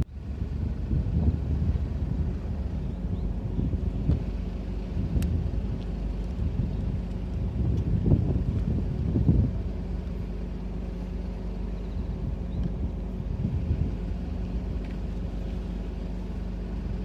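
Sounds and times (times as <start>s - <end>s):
car engine humming: 0.0s - 17.0s
low background rumble: 0.0s - 17.0s.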